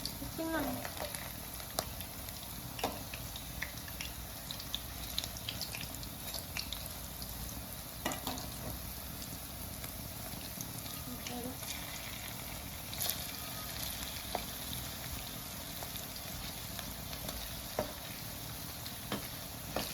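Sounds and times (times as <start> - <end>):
batter sizzling in oil: 0.0 - 19.9.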